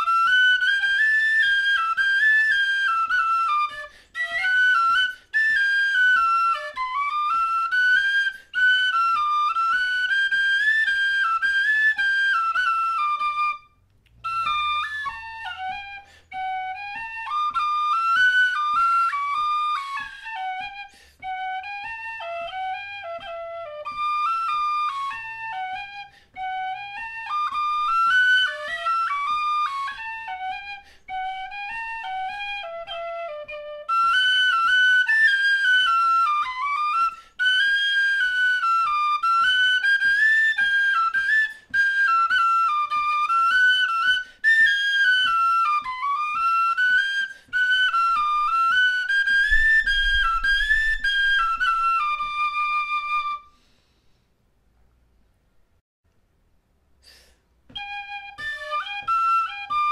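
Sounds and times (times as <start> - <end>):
tin whistle melody: 0.0 - 53.7, 57.7 - 59.9.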